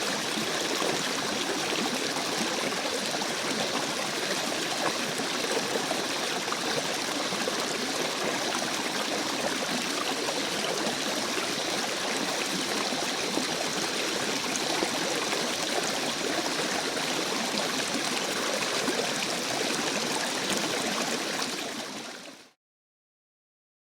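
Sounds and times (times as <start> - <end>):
stream water flowing: 0.0 - 22.5.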